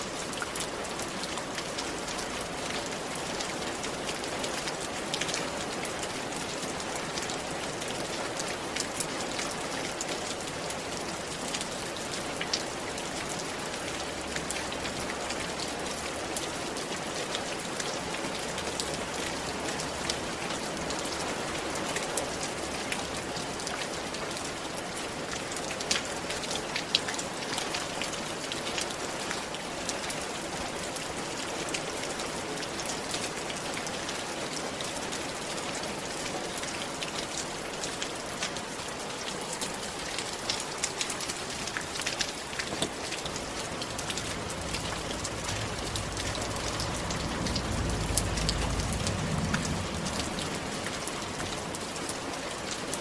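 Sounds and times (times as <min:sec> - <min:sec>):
rain falling on a roof: 0:00.0 - 0:53.0.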